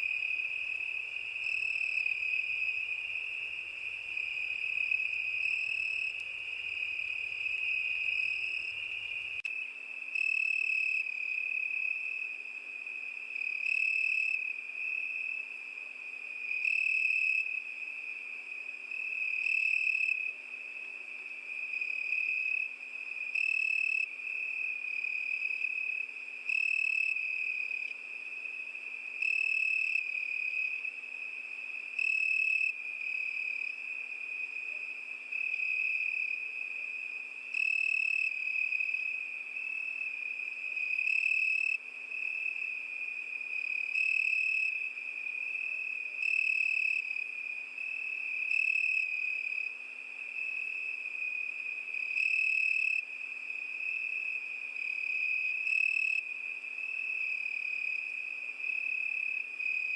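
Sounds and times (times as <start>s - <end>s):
cricket chirping phrase: 0.0s - 59.9s
crickets trilling: 0.0s - 59.9s.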